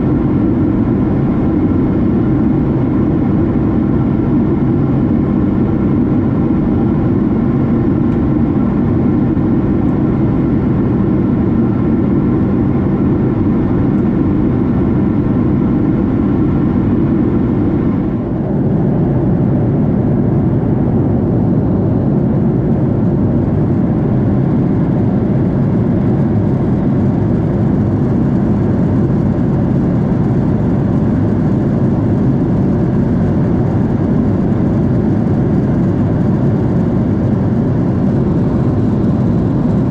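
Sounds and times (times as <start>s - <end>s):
airliner cabin roar: 0.0s - 39.9s.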